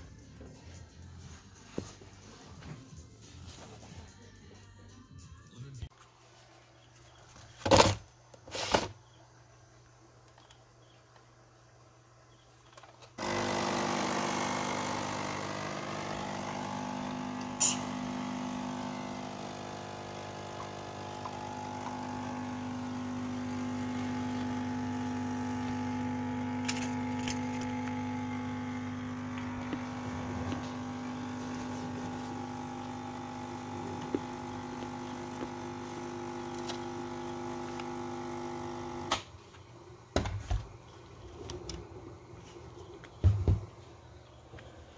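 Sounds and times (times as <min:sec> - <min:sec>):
coffee machine humming: 0:07.0 - 0:44.9.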